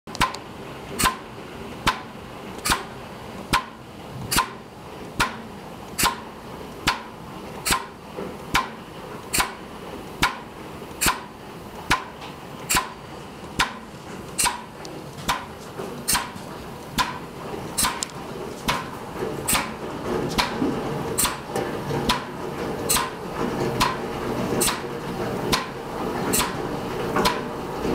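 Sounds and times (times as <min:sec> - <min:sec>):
diaphragm pump clacking: 0:00.1 - 0:27.9.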